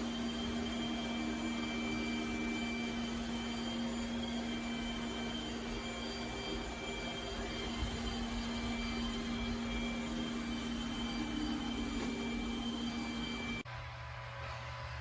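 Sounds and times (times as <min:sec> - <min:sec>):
robot vacuum motors humming: 0:00.0 - 0:13.6.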